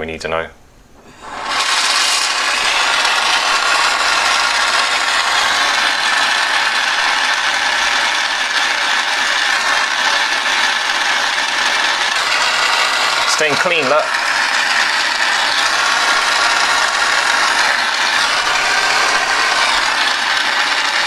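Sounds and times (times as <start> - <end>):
torch flame hissing: 1.0 - 21.0.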